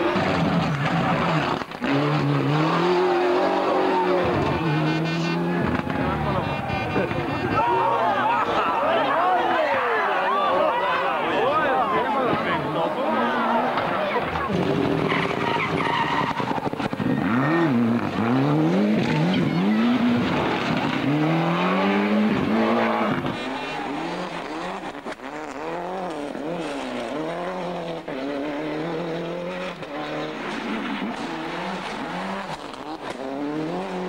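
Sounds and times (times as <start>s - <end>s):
rally car engines passing: 0.0s - 34.0s.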